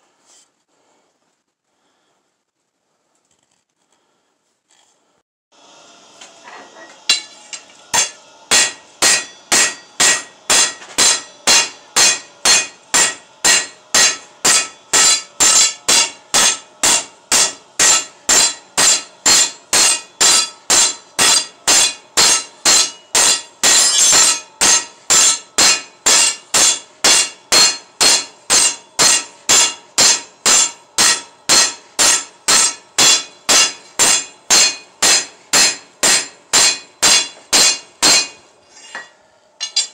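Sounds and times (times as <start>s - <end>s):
hammer striking steel on anvil: 6.8s - 39.9s.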